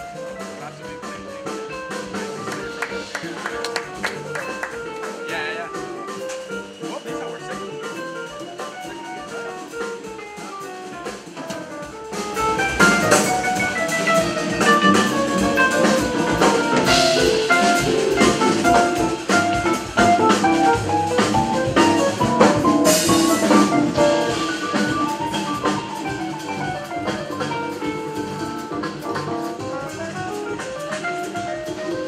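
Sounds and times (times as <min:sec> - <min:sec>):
jazz trio playing: 0:00.0 - 0:32.0.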